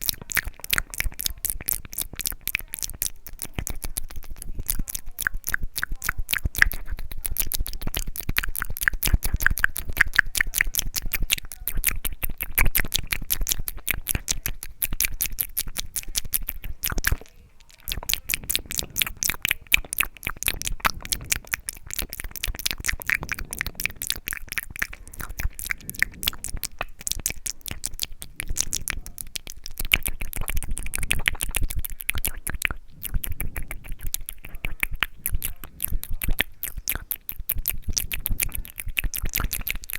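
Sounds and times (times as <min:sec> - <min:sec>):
lip smacks: 0:00.0 - 0:39.9
tongue clicks: 0:00.0 - 0:39.9.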